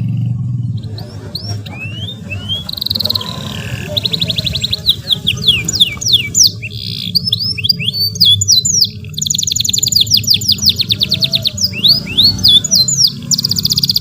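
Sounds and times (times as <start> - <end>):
canary singing: 0.4 - 14.0.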